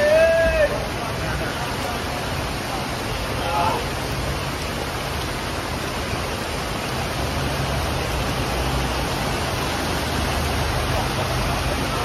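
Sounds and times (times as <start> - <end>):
heavy rain pouring: 0.0 - 12.0
running water: 0.0 - 12.0.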